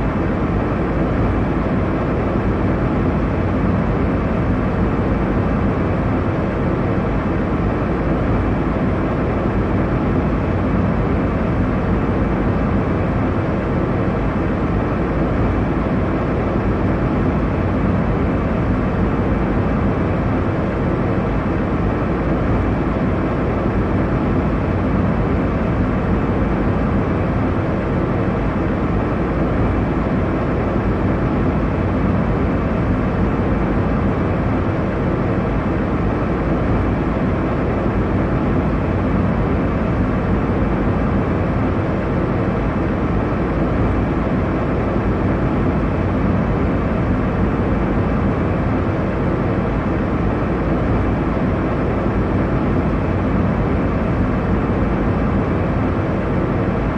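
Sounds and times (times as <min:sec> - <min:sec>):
airliner cabin engine rush: 0:00.0 - 0:56.9.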